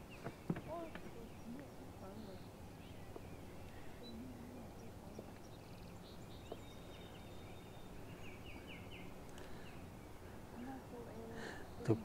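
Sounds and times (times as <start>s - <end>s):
bird chirps: 0.0s - 12.0s
faint bird calls: 0.0s - 12.0s
low background noise: 0.0s - 12.0s.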